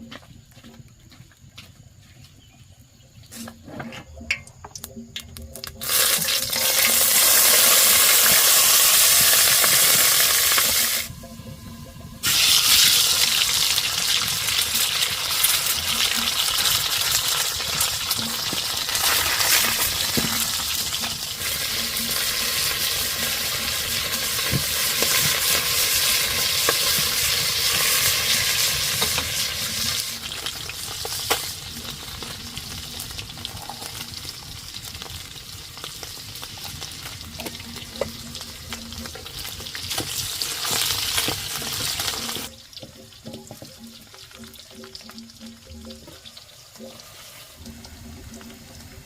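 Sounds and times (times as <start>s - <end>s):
food sizzling in a hot pan: 5.7s - 49.0s.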